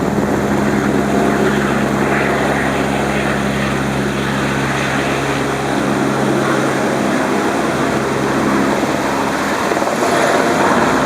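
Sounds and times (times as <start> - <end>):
helicopter rotor and engine: 0.0 - 11.0.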